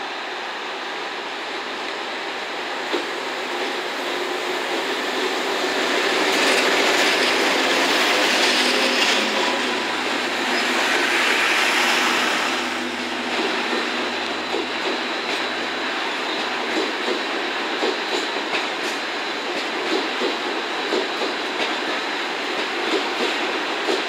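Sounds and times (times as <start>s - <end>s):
train wheels clattering on rails: 2.8s - 24.0s.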